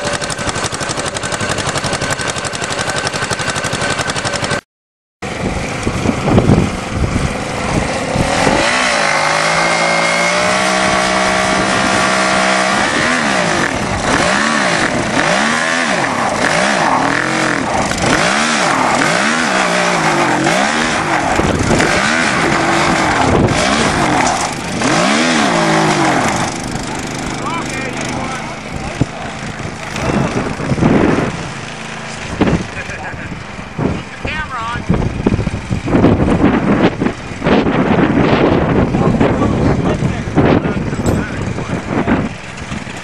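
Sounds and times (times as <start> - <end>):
small engines straining: 0.0 - 4.6, 5.3 - 43.0.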